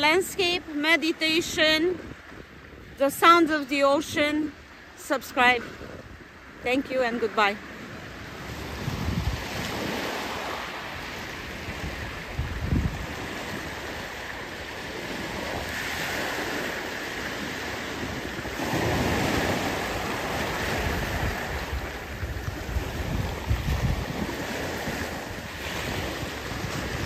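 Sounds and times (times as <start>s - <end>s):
waves washing up shingle beach: 0.0s - 27.0s
wind buffeting microphone: 0.0s - 27.0s.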